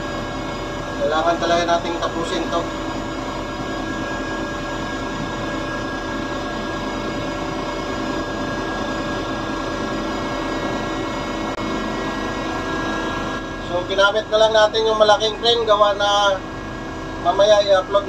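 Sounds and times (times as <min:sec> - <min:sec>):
hydraulic power unit drone: 0:00.0 - 0:18.0.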